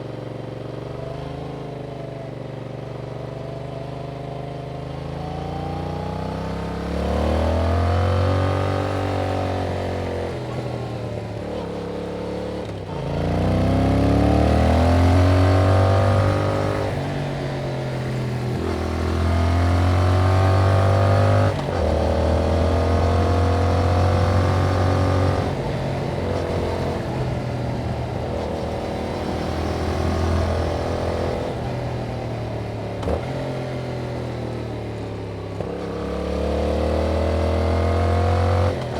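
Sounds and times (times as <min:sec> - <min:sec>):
motorcycle engine revving: 0:05.0 - 0:38.9.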